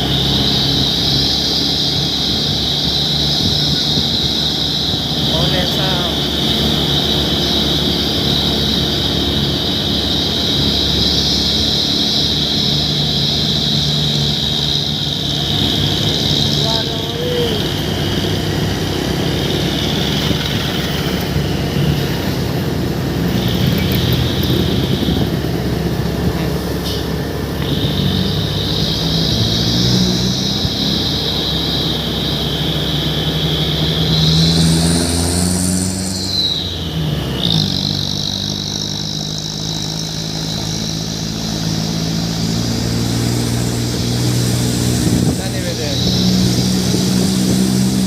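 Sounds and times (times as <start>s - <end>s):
diesel truck engine exhaust: 0.0s - 48.0s
high whine: 0.0s - 48.0s.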